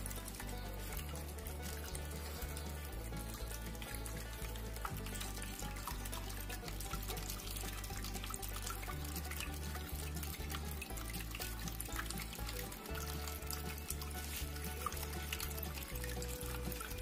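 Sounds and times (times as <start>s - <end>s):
background music with bass line: 0.0s - 17.0s
water running and splashing: 0.0s - 17.0s.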